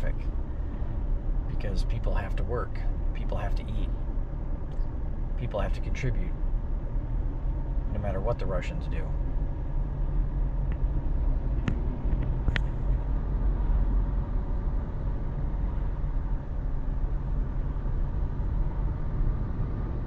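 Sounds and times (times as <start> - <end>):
car rumbling in traffic: 0.0 - 20.0.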